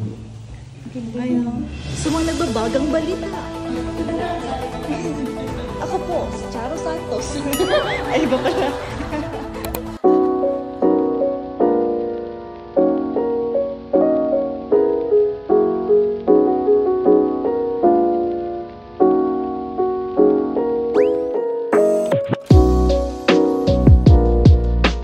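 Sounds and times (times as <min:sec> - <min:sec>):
calm piano music: 0:01.2 - 0:25.0.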